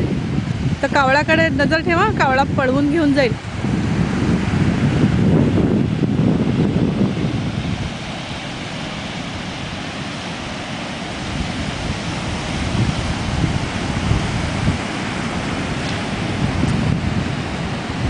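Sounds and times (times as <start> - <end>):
ocean surf on sandy beach: 0.0 - 18.0
wind buffeting microphone: 0.0 - 18.0.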